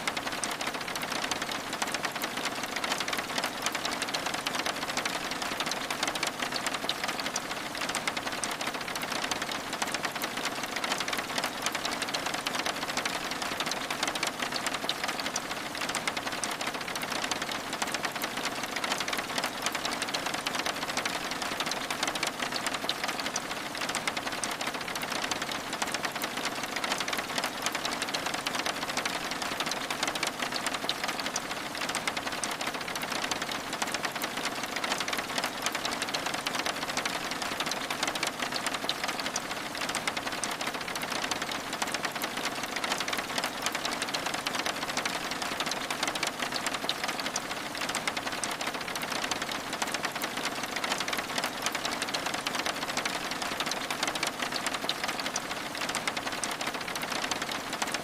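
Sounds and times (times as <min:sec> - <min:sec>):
rain pattering on window: 0:00.0 - 0:58.0.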